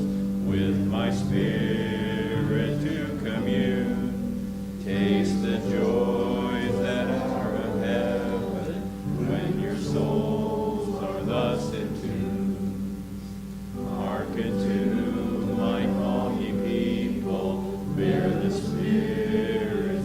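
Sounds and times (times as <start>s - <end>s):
congregation singing a hymn: 0.0s - 20.0s
piano accompaniment: 0.0s - 20.0s.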